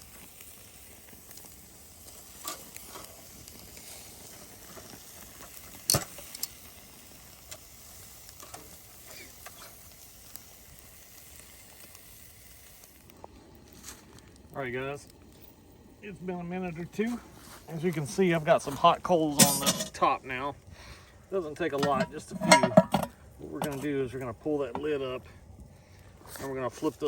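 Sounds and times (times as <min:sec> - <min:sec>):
fire pops and crackles: 0:00.0 - 0:27.0
steaks sizzling on a grill: 0:00.0 - 0:27.0.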